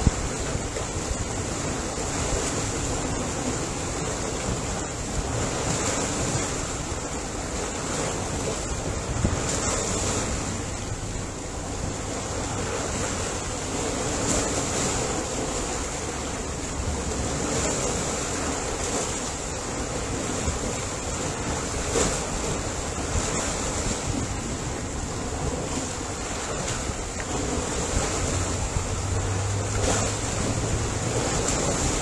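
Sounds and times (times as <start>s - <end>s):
ocean waves washing: 0.0s - 32.0s.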